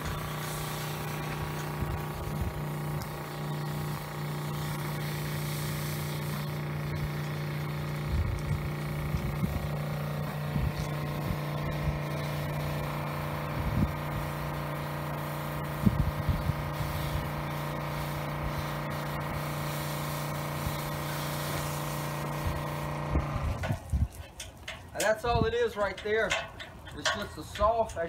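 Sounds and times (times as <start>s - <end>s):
spray hiss: 0.0s - 23.3s
pump humming: 0.0s - 24.0s.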